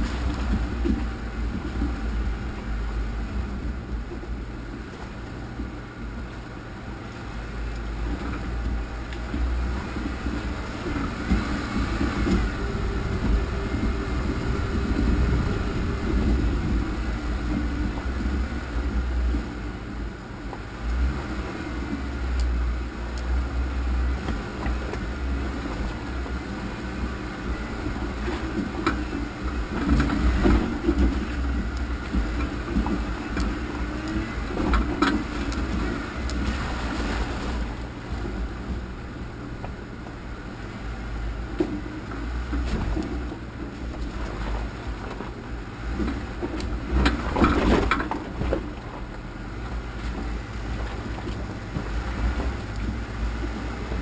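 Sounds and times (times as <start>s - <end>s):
off-road vehicle engine rumbling: 0.0s - 54.0s.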